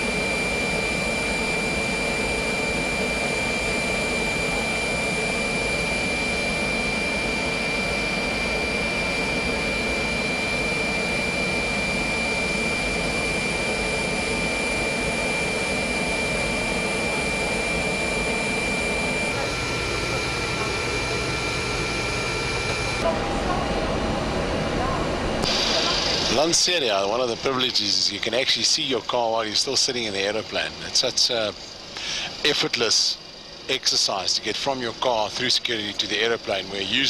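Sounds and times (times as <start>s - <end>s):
aircraft turbine whine: 0.0s - 37.0s
constant high-pitched tone: 0.0s - 37.0s.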